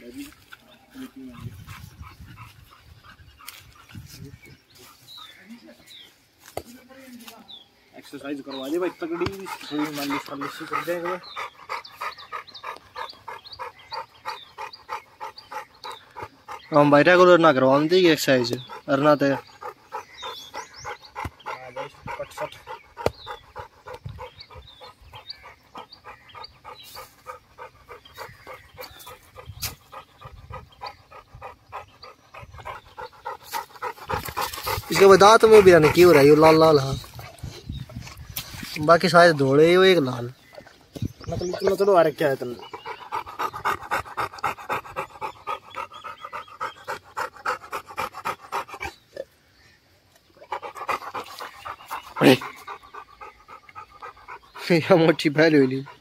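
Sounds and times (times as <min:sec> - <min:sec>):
dog panting: 0:00.1 - 0:05.4, 0:08.2 - 0:40.4, 0:41.0 - 0:49.2, 0:50.3 - 0:56.0.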